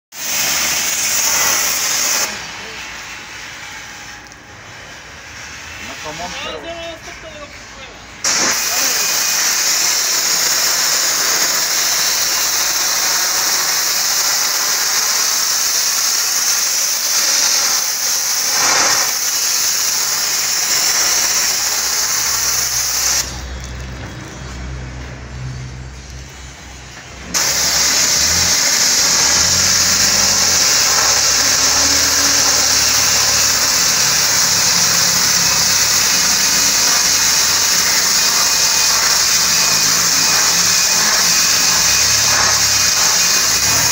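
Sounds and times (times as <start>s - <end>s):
water jet hissing: 0.1s - 23.6s, 26.5s - 43.9s.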